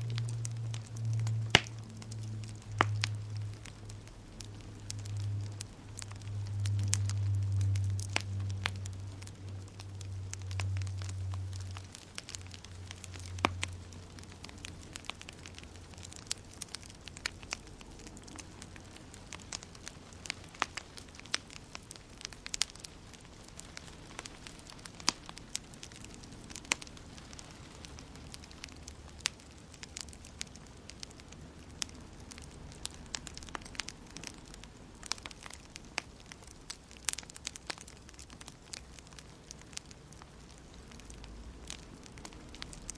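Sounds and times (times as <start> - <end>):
low rumble: 0.0 - 35.6
faint hiss: 0.0 - 42.9
wood fire crackling and popping: 0.0 - 42.9.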